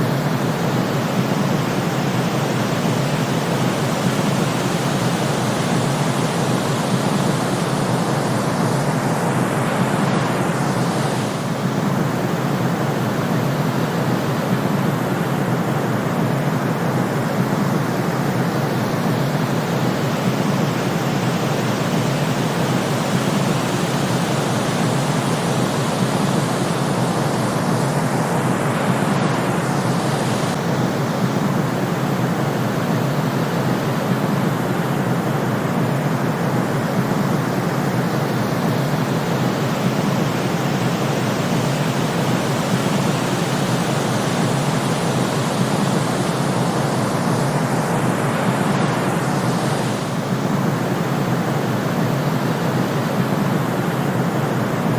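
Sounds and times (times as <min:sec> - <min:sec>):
steady white noise: 0:00.0 - 0:54.9.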